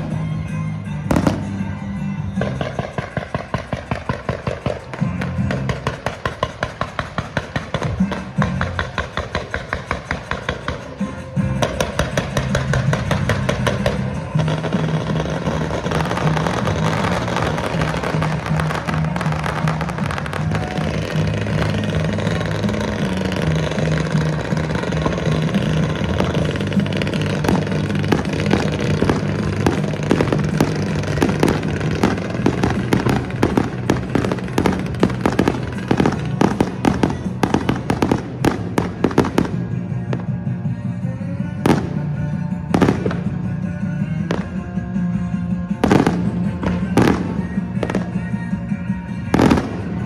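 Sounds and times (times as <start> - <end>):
music track: 0.0 - 50.0
fireworks crackling and popping: 1.0 - 1.7, 2.3 - 40.5, 41.6 - 50.0
firework bangs: 1.1 - 1.7, 2.4 - 40.4, 41.6 - 43.5, 44.2 - 44.8, 45.7 - 48.5, 49.1 - 50.0.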